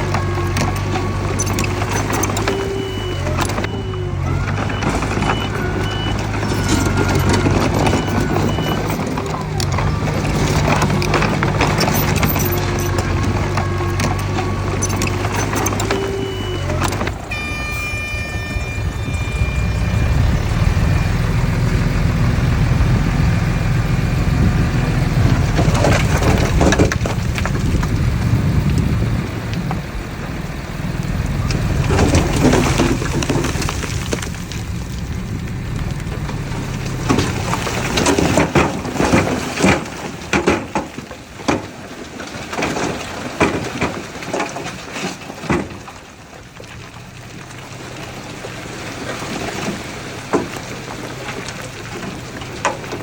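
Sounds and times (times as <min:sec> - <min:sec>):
diesel machinery rumbling: 0:00.0 - 0:53.0
sharp clatters and crackles: 0:00.0 - 0:53.0.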